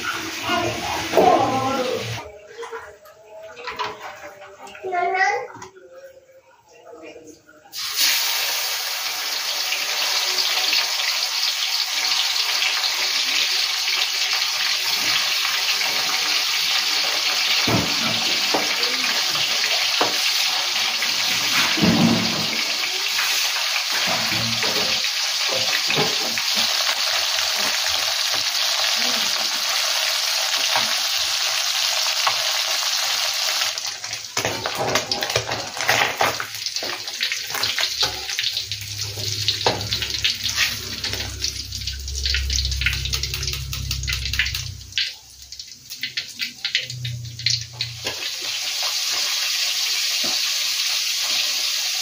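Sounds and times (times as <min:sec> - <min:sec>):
fish deep-frying in hot oil: 0:07.7 - 0:52.0.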